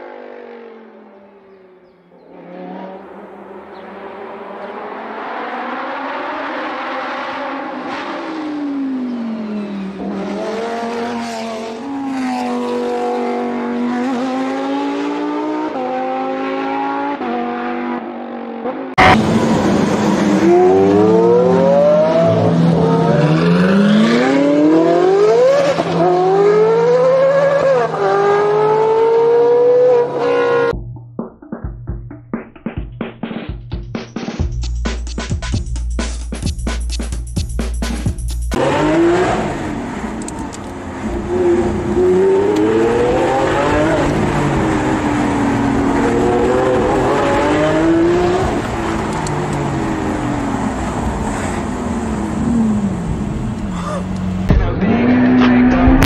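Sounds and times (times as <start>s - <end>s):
car engine revving through gears: 2.2s - 30.7s, 38.5s - 56.0s.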